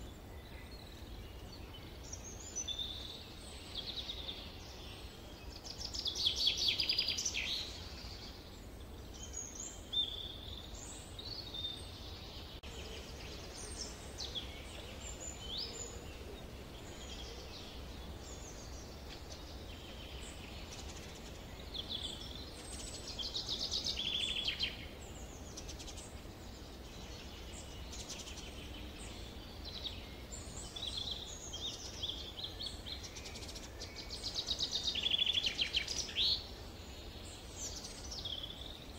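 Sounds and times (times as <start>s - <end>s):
songbirds singing and trilling: 0.0s - 38.9s.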